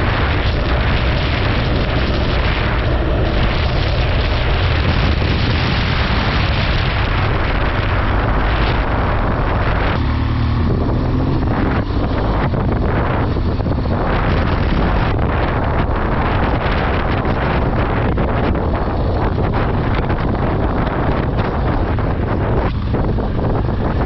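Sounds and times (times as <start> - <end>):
vehicle engine running: 0.0 - 24.0
wind noise on microphone: 0.0 - 24.0.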